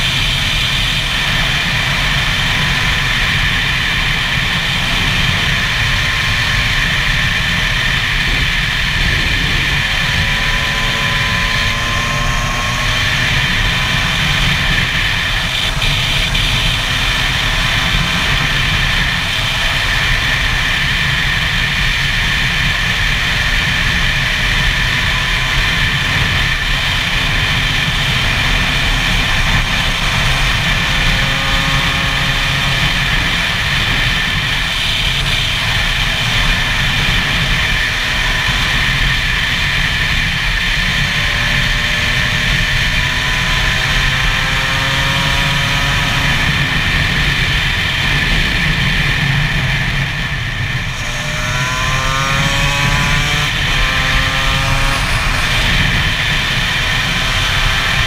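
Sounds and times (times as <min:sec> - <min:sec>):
two-stroke motorcycle engine running: 0:00.0 - 0:58.0
wind rumbling on microphone: 0:00.0 - 0:58.0.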